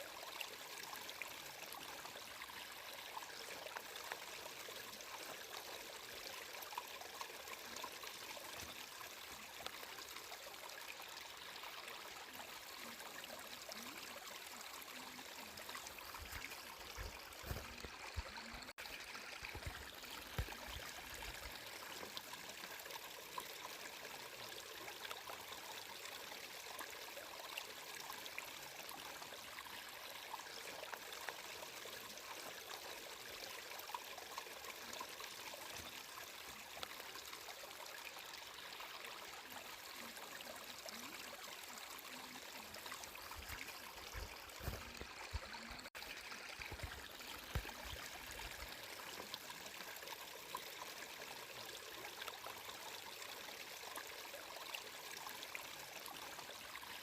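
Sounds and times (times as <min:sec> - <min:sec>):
water flowing over stones: 0:00.0 - 0:57.0.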